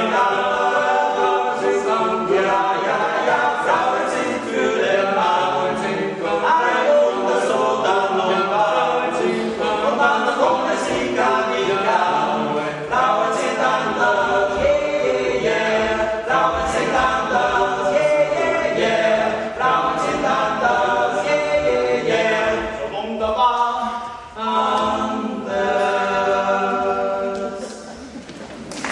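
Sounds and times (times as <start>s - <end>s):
men's choir singing a cappella: 0.0s - 28.2s.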